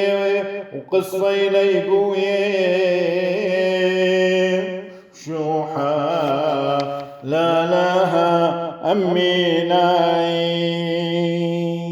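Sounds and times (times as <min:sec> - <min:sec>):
man chanting unaccompanied: 0:00.0 - 0:11.9.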